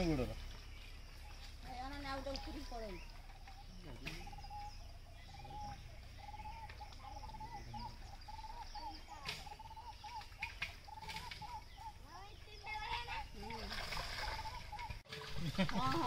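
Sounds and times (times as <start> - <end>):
birds chirping faintly: 0.0 - 16.0
squelches in wet mud: 0.0 - 16.0.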